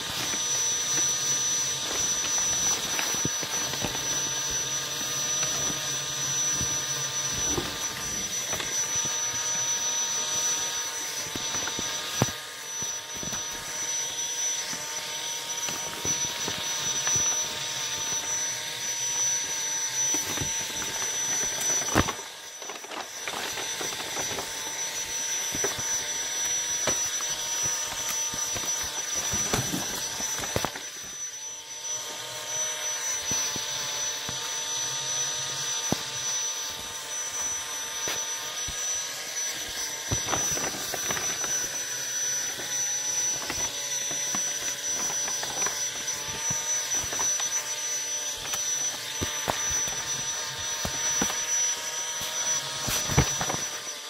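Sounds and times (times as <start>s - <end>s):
small motor whirring: 0.0s - 54.0s.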